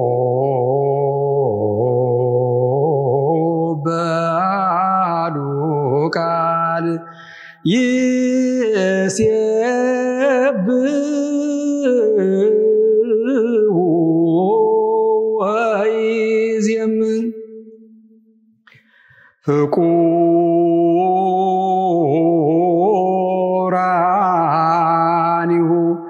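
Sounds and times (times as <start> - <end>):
man chanting: 0.0 - 17.4, 19.5 - 26.0.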